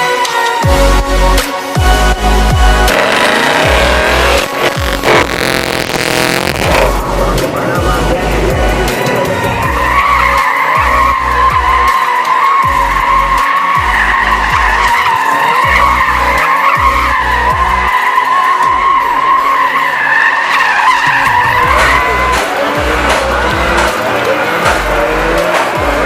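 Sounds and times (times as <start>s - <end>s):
car tyres squealing: 2.7s - 7.1s, 9.3s - 26.0s.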